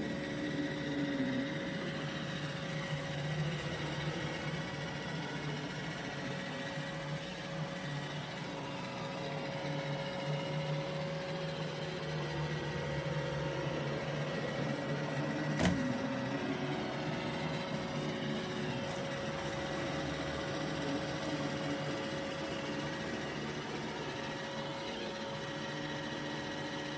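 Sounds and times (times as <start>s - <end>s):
robot vacuum motor hum: 0.0s - 26.9s.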